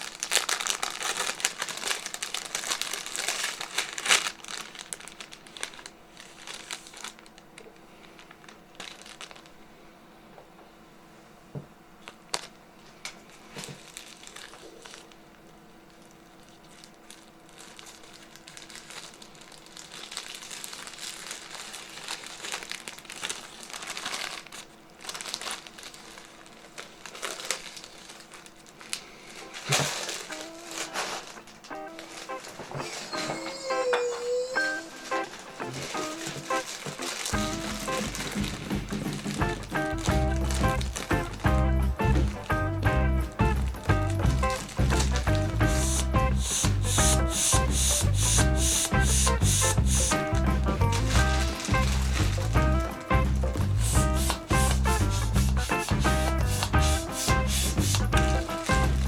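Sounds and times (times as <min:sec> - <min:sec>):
foil balloon crinkling: 0:00.0 - 0:09.7, 0:12.0 - 0:59.0.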